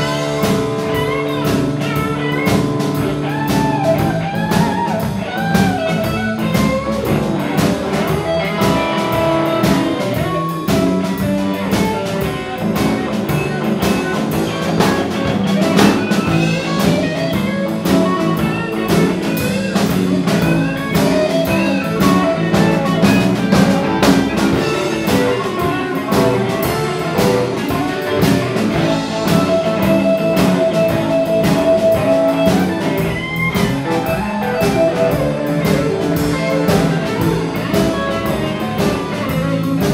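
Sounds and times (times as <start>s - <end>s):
bass guitar: 0.0s - 39.9s
drum kit beat: 0.0s - 39.9s
electric guitar lead lines: 0.0s - 39.9s.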